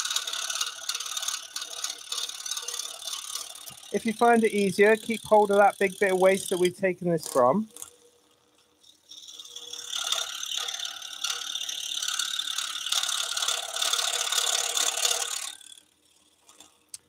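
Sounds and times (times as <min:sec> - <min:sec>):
faint motor hum: 0:00.0 - 0:17.0
scroll saw cutting wood: 0:00.0 - 0:17.0.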